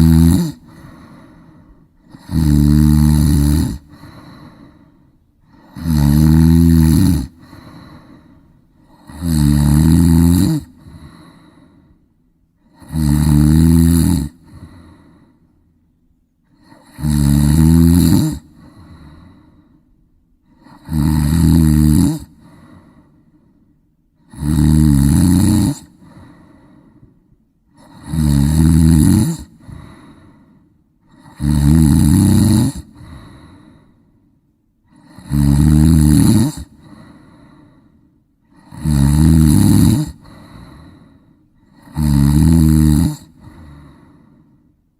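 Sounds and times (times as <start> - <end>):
person snoring: 0.0 - 12.0, 12.6 - 15.4, 16.5 - 19.7, 20.4 - 23.3, 24.2 - 27.1, 27.7 - 34.1, 34.9 - 44.6.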